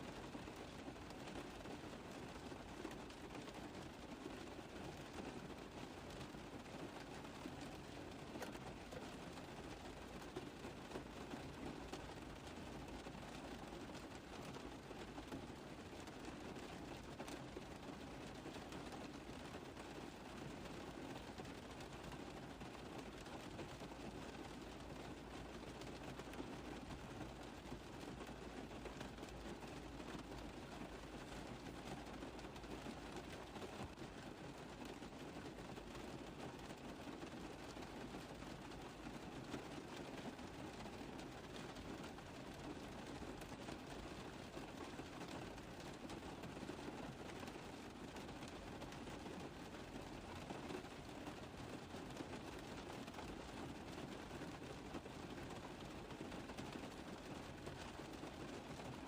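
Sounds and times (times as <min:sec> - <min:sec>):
rain drumming on car roof: 0:00.0 - 0:59.0.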